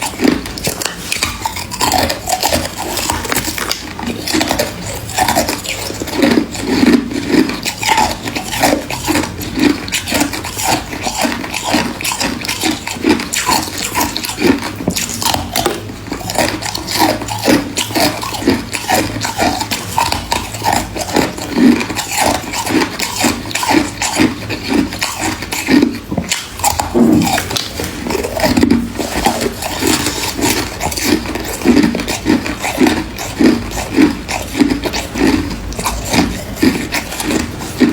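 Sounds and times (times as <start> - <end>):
chewing ice crunches: 0.0 - 37.9.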